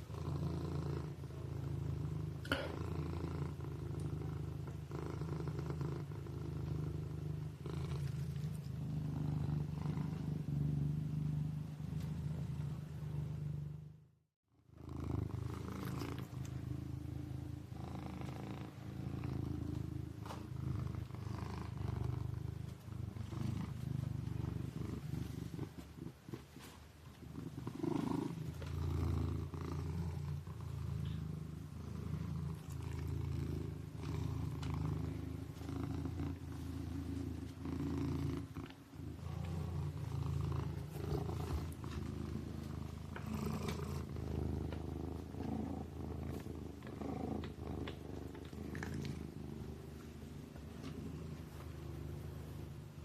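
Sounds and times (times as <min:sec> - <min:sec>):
kitten purring: 0:00.0 - 0:53.0.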